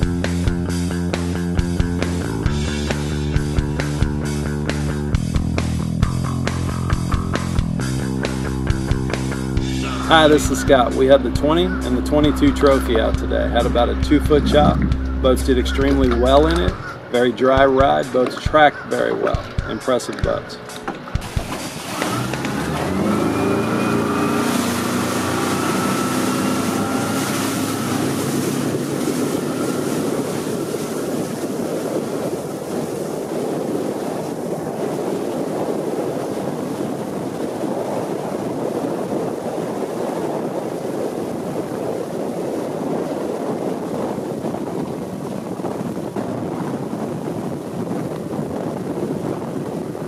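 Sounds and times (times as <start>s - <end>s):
outboard engine accelerating: 0.0s - 50.0s
rush of wind and water: 0.0s - 50.0s.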